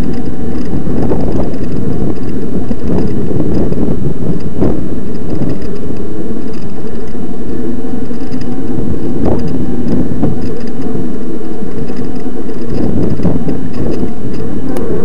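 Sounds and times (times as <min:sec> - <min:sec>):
bike riding rumble: 0:00.0 - 0:15.0.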